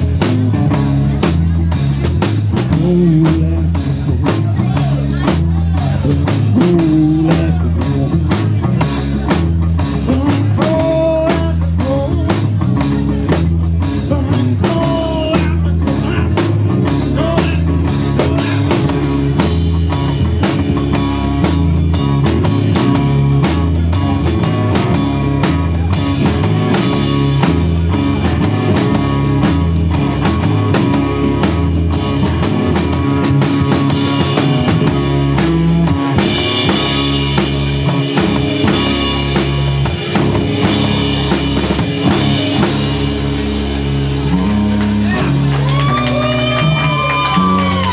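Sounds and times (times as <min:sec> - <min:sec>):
bending guitar lines: 0:00.0 - 0:47.9
live rock band: 0:00.0 - 0:47.9.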